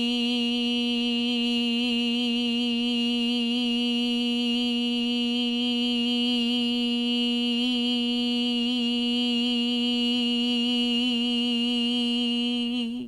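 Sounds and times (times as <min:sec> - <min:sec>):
person chanting long vowel: 0:00.0 - 0:13.0.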